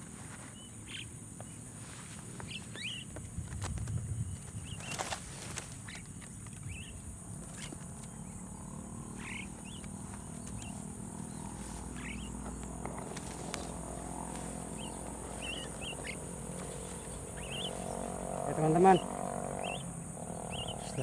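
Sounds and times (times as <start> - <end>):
high insect drone: 0.0 - 21.0
low hum: 3.9 - 21.0.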